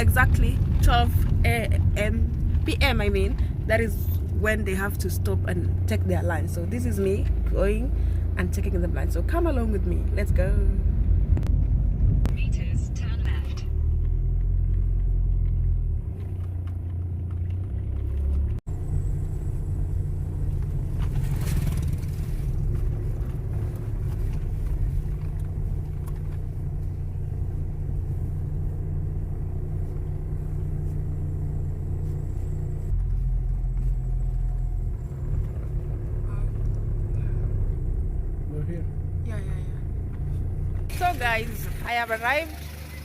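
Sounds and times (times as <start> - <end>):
car cabin rumble: 0.0 - 43.0.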